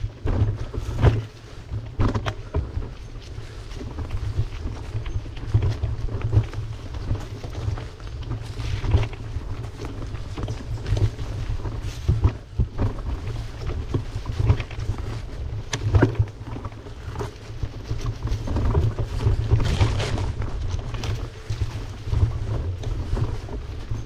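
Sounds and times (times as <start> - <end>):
bicycle clicks and rattles: 0.0 - 24.0
wind buffeting microphone: 0.0 - 24.0.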